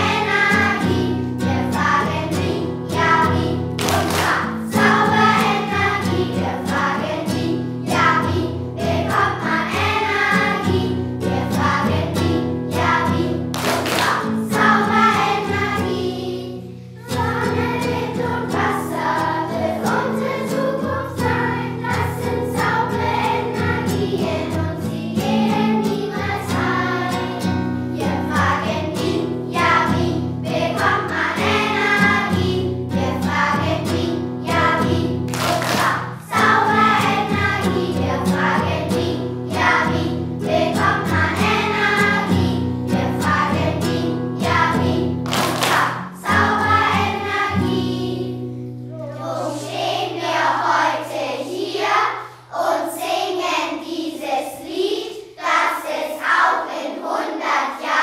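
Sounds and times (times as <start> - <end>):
instrumental backing music: 0.0 - 50.0
children's choir singing: 0.0 - 58.0.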